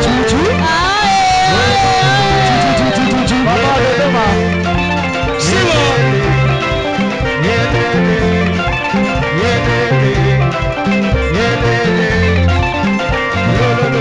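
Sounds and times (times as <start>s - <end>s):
dance band music: 0.0s - 14.0s
guitars playing: 0.0s - 14.0s
repeating bass line: 0.0s - 14.0s
steady drum beat: 0.0s - 14.0s.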